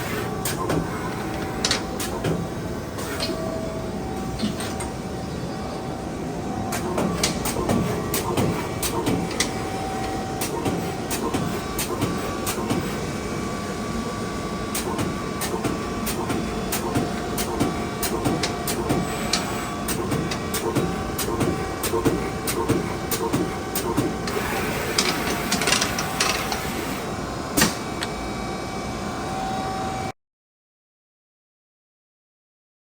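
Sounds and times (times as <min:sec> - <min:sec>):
punch press humming: 0:00.0 - 0:28.4.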